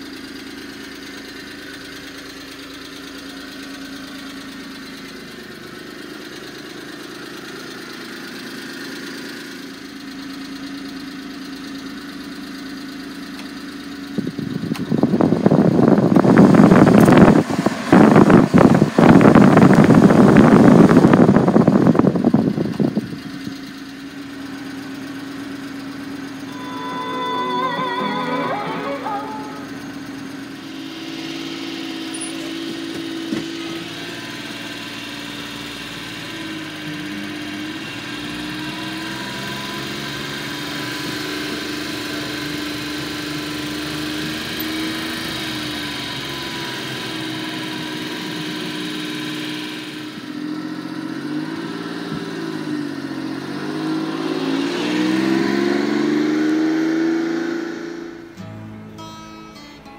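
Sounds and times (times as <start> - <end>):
small truck engine running: 0.0 - 59.9.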